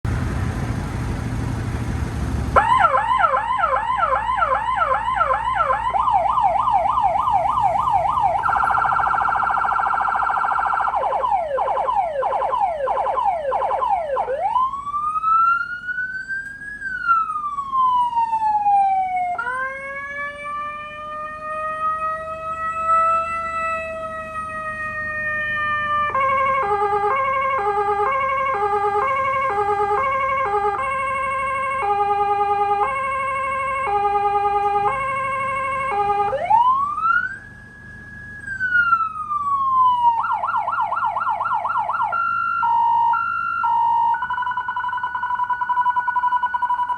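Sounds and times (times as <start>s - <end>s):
electronic siren: 2.6s - 46.9s.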